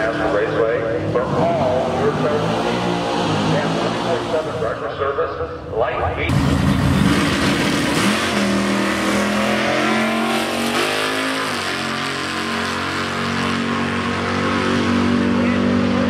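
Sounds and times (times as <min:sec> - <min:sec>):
drag race car accelerating: 0:00.0 - 0:16.0.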